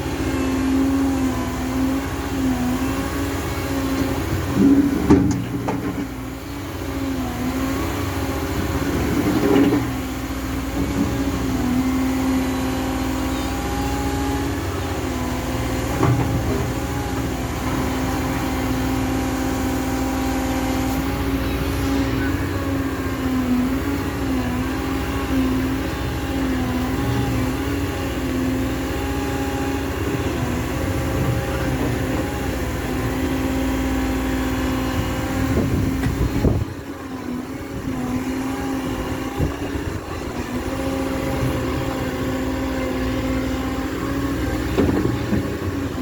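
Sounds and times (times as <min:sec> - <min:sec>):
diesel engine running under load: 0:00.0 - 0:46.0.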